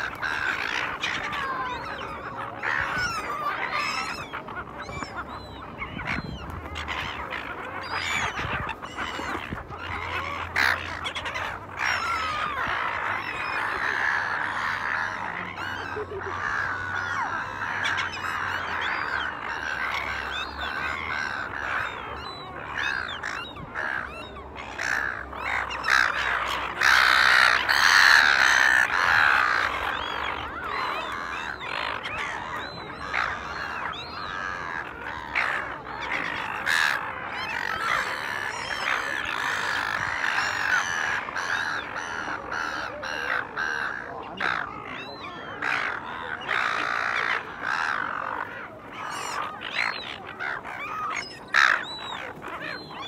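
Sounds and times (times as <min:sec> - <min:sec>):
gulls calling: 0:00.0 - 0:53.0.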